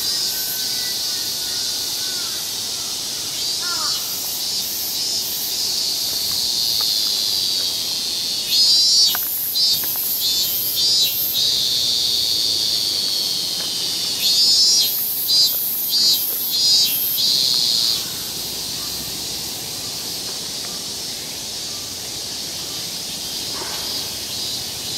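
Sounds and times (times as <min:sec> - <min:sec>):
cicadas droning: 0:00.0 - 0:24.9
rapidly pulsing cicada calls: 0:00.0 - 0:24.9.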